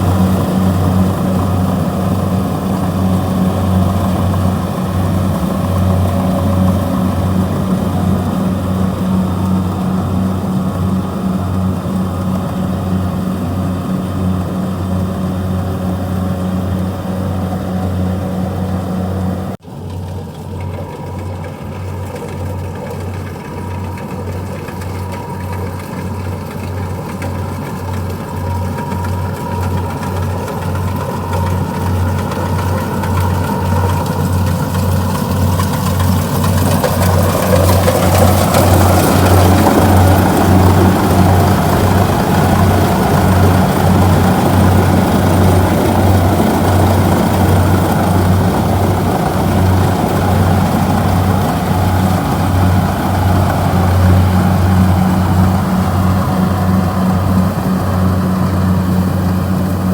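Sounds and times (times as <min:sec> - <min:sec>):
combine harvester engine throbbing: 0:00.0 - 0:59.9.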